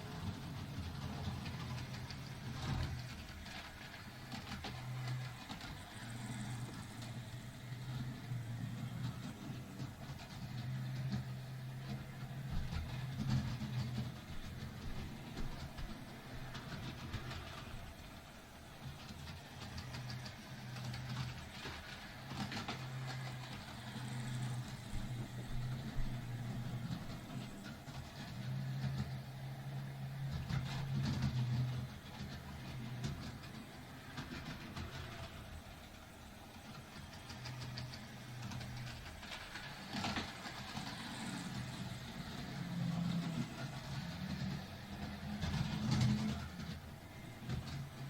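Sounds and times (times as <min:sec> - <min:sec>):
model train motor hum: 0:00.0 - 0:48.0
model train rattle: 0:00.0 - 0:48.0
wheels clicking on track: 0:00.0 - 0:48.0.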